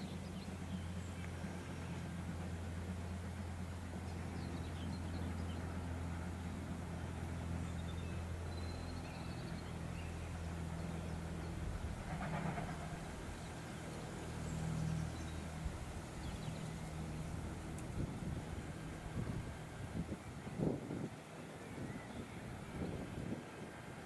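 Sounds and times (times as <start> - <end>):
distant steam locomotive: 0.0 - 24.0.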